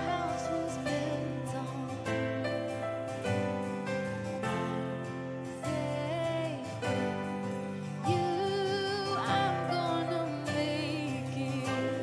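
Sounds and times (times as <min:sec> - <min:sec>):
woman singing: 0:00.0 - 0:02.8, 0:04.7 - 0:12.0
guitars: 0:00.0 - 0:12.0
keyboard: 0:00.0 - 0:12.0.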